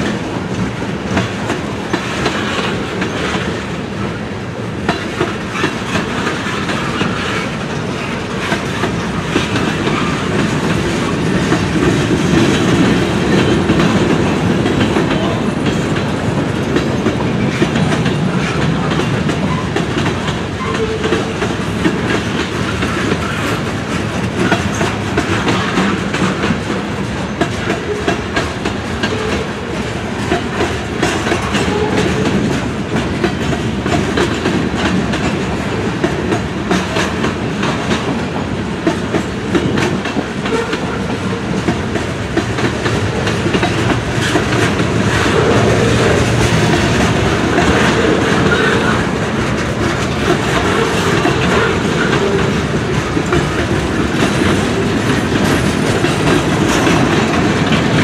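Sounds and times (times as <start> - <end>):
train wheels clattering over rail joints: 0.0 - 58.0.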